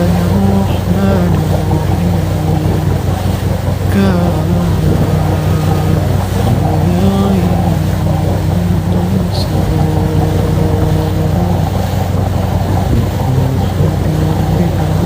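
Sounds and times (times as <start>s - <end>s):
low hum: 0.0s - 15.0s
person chanting recitation: 0.0s - 15.0s
rushing white noise: 0.0s - 15.0s.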